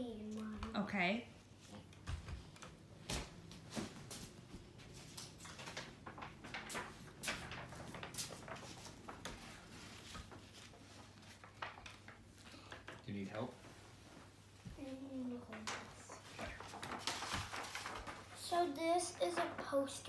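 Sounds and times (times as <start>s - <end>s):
objects knocking and rustling: 1.6s - 20.0s.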